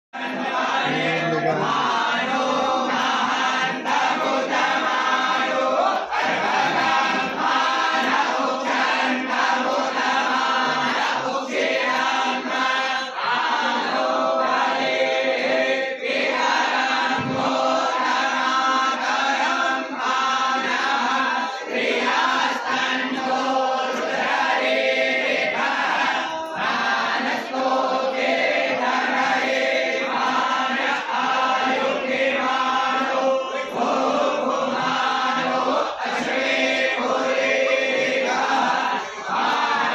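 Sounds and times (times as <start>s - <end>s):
group chanting in unison: 0.1s - 39.9s.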